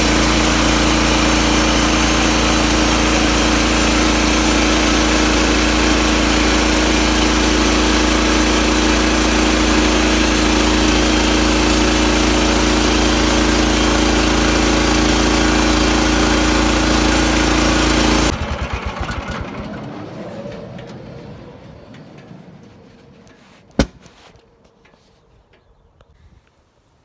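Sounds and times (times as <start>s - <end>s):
sawmill gas engine running: 0.0s - 24.4s.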